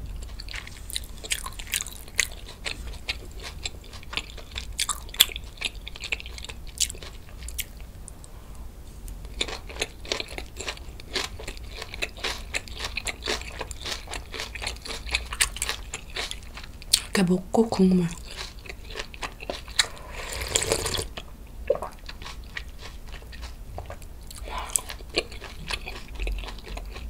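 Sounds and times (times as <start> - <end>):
crisp chewing crunches: 0.1 - 7.9, 9.2 - 17.2, 18.1 - 21.2, 21.8 - 27.0.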